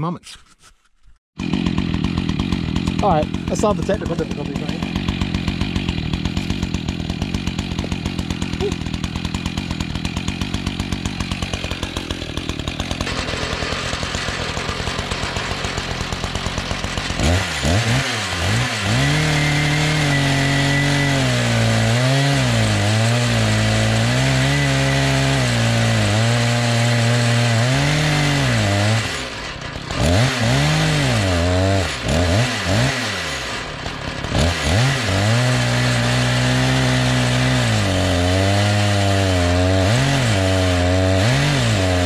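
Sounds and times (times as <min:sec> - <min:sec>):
chainsaw idling and revving: 0:01.4 - 0:42.0.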